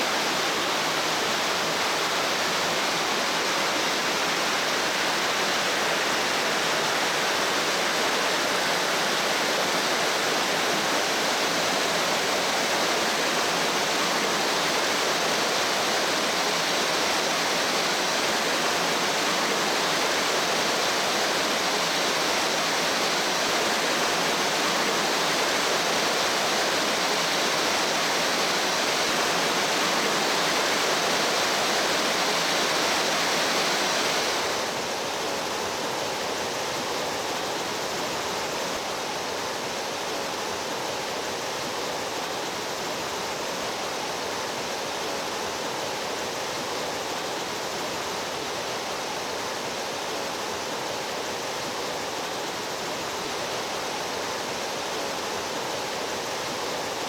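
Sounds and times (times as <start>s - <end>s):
rushing mountain stream: 0.0s - 57.0s.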